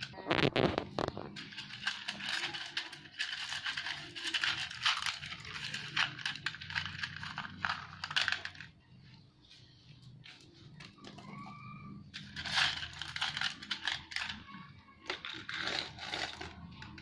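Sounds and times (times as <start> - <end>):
gravel rattling into plastic bottle: 0.0 - 8.8, 12.0 - 17.0
plastic crinkling: 0.0 - 9.0, 10.2 - 17.0.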